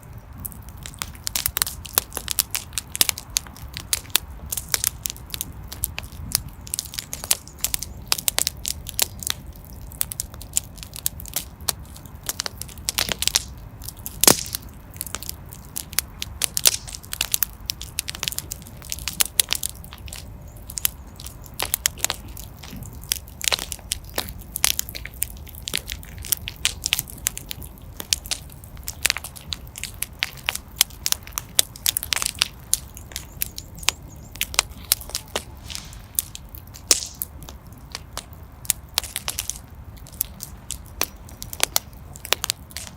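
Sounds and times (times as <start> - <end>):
fire crackling and popping: 0.0 - 42.9
low fire rumble: 0.0 - 42.9.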